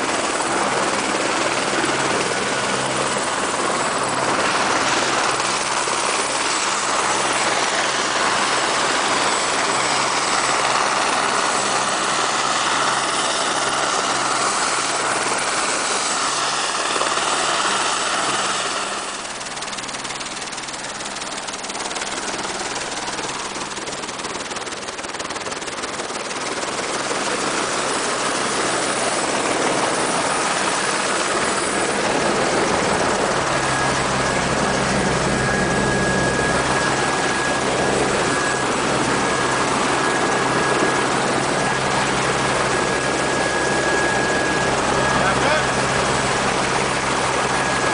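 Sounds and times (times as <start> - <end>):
helicopter turbine and rotor: 0.0 - 47.9.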